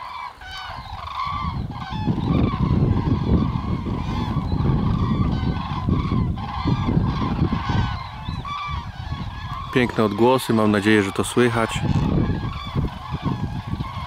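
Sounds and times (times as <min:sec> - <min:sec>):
cranes trumpeting calls: 0:00.0 - 0:14.0.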